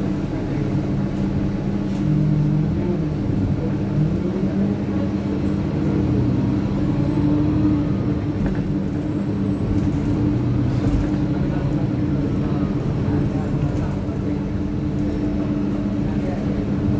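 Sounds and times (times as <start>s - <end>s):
bus engine drone: 0.0s - 16.9s
road rumble: 0.0s - 16.9s.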